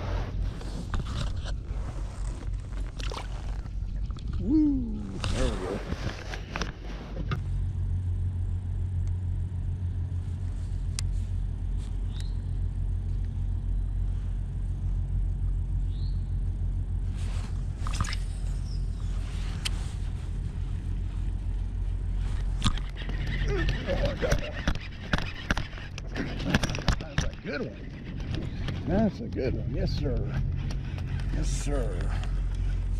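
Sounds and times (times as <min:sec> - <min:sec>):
small boat motor running: 0:00.0 - 0:32.9.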